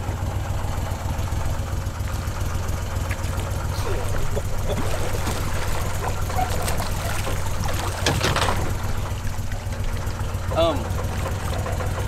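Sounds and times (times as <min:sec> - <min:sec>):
boat motor idling: 0:00.0 - 0:12.0
water splashing against boat: 0:00.0 - 0:12.0.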